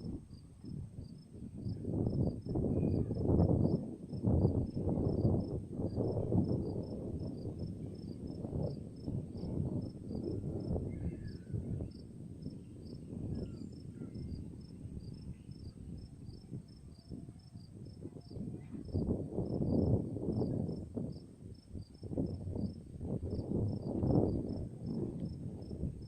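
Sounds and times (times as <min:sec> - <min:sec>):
cricket chirping: 0:00.3 - 0:25.8.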